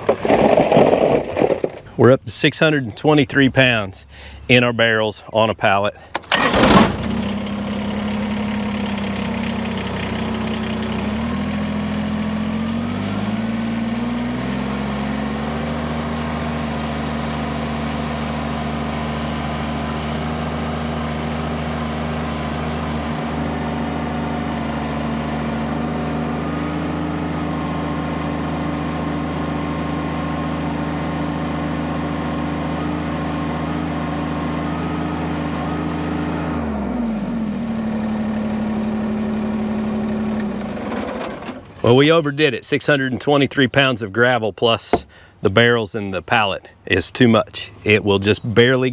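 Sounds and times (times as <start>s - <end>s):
tractor diesel engine revving: 1.8s - 46.4s.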